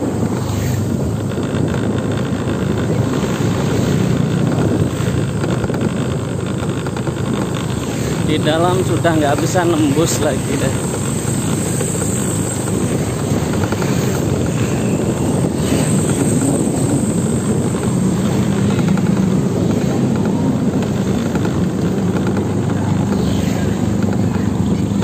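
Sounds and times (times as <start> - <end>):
road rushing noise: 0.0 - 25.0
vehicle engine drone: 0.0 - 25.0.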